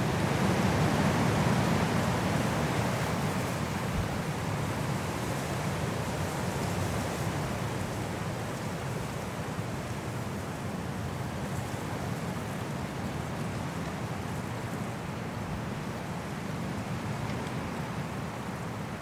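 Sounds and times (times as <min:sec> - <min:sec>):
strong wind through trees: 0:00.0 - 0:19.0.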